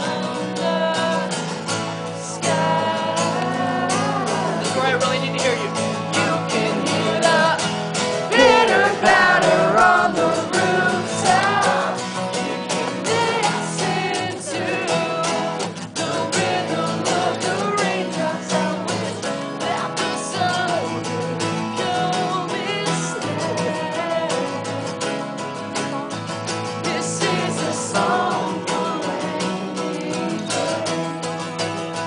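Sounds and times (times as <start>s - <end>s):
man singing: 0.0s - 1.4s, 2.1s - 32.0s
acoustic guitar strumming: 0.0s - 32.0s.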